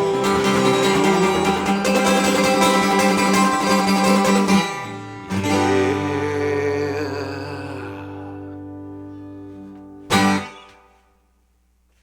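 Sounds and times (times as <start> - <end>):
guitar chord ringing: 0.0 - 11.1
acoustic guitar strumming: 0.0 - 11.4.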